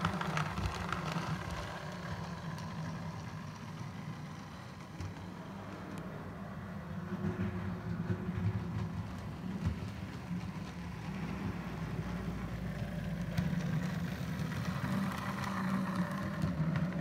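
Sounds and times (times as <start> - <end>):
model train humming: 0.0 - 6.9, 8.4 - 17.0.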